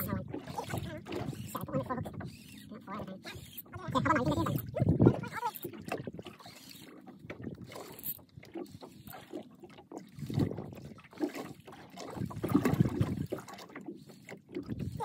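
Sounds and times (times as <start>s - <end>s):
water sloshing around boat: 0.0s - 15.0s.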